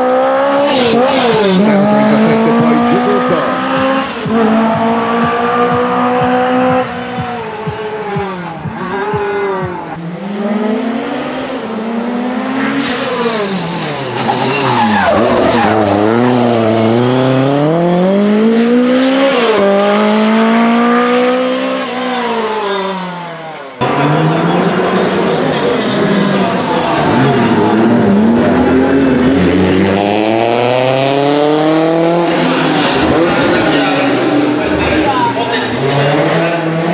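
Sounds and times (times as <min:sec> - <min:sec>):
car engine revving hard: 0:00.0 - 0:36.9.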